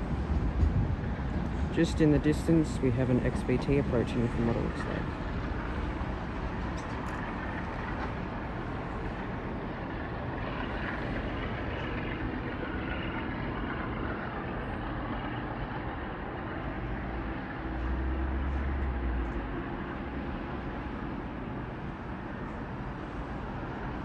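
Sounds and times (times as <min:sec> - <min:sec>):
train rumbling along track: 0:00.0 - 0:24.0.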